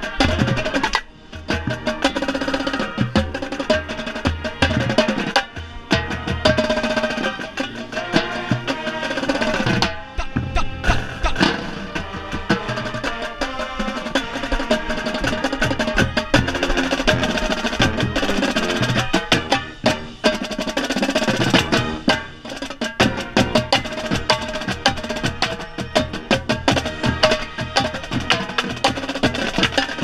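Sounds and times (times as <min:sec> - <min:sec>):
marching band playing: 0:00.0 - 0:30.0
rapid tenor drum strokes: 0:00.0 - 0:30.0.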